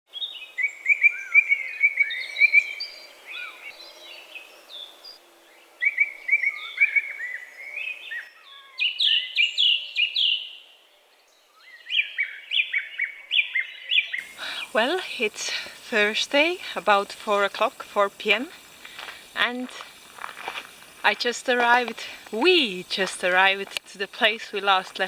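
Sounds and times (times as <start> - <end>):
songbirds chirping: 0.1 - 25.0.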